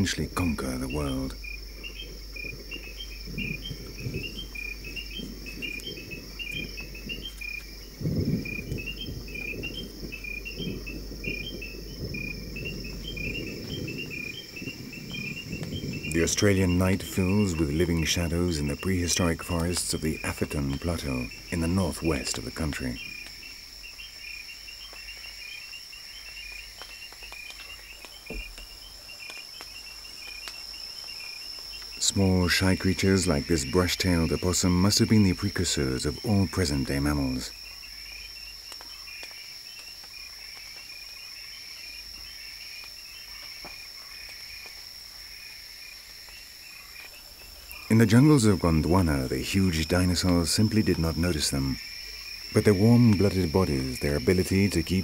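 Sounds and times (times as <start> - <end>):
high insect buzz: 0.0 - 55.0
insect chirps: 0.0 - 55.0.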